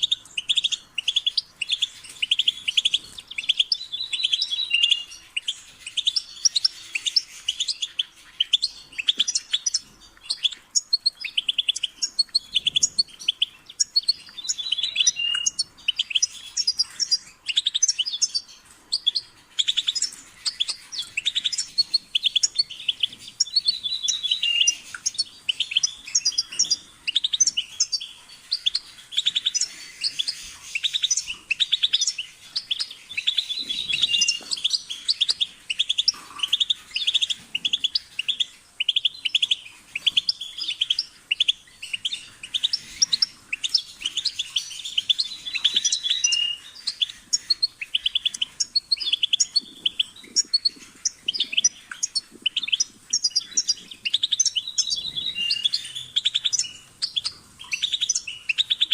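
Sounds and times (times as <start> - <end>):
goldfinch singing: 0.0 - 58.9.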